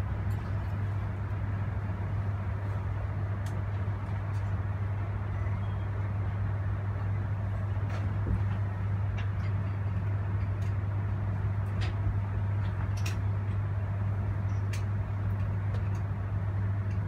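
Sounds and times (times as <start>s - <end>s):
passenger train hum: 0.0s - 17.0s.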